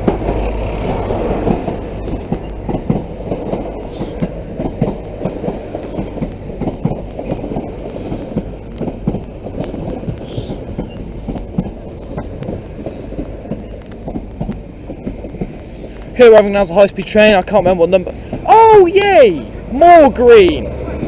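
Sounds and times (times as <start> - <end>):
train rumbling: 0.0 - 21.0
wheels clacking over rail joints: 0.0 - 21.0.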